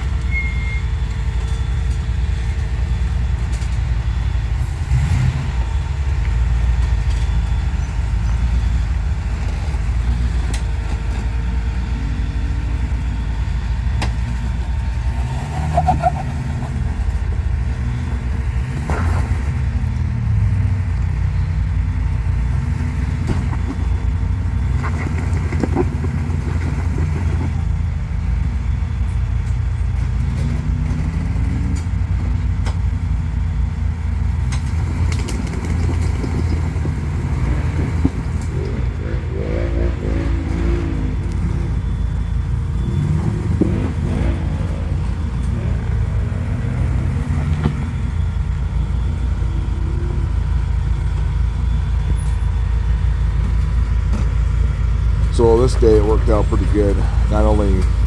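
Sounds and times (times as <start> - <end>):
engine running at low revs: 0.0 - 58.0.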